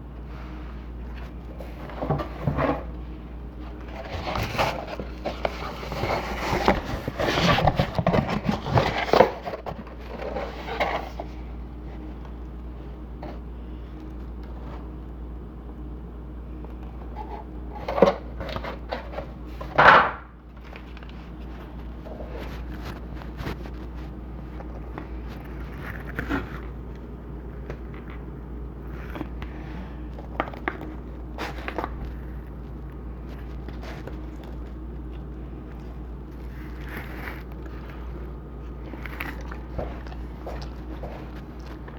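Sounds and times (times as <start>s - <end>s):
food rustling and crunching: 0.0s - 15.2s, 16.5s - 19.8s, 20.4s - 41.9s
steady low hum: 0.0s - 41.9s.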